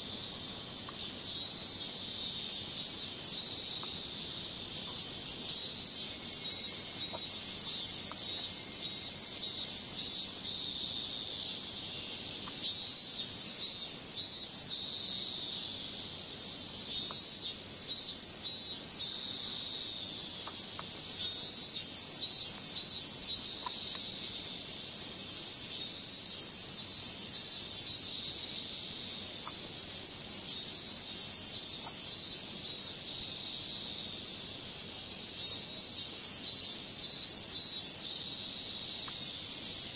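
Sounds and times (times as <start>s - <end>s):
cicadas shrilling: 0.0s - 39.9s
rapid rhythmic insect pulsing: 0.0s - 39.9s.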